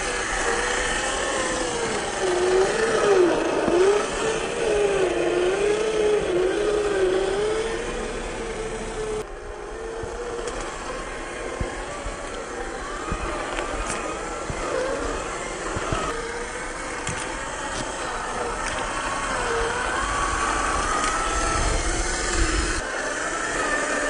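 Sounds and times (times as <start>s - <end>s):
electric motor whine: 0.0s - 24.0s.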